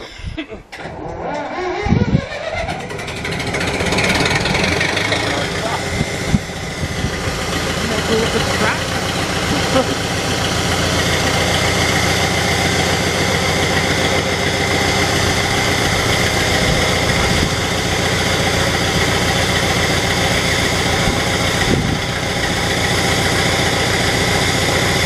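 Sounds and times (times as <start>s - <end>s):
diesel engine idling: 2.2s - 25.0s.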